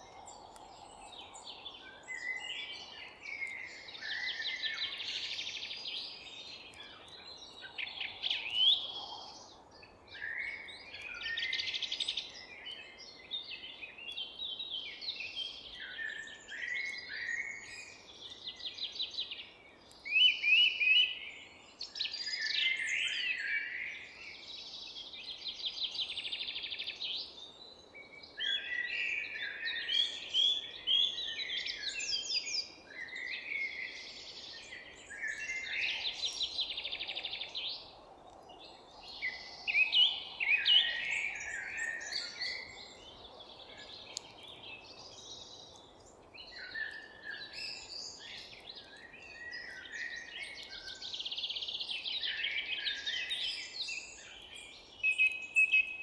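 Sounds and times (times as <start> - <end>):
songbirds singing and chirping: 0.0 - 56.0.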